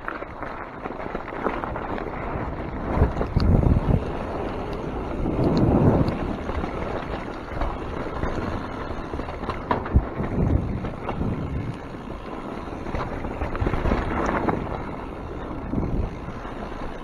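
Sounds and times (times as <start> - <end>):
bike knocks and rattles: 0.0 - 17.0
tyres rolling on wet trail: 0.0 - 17.0
wind buffeting microphone: 0.0 - 17.0.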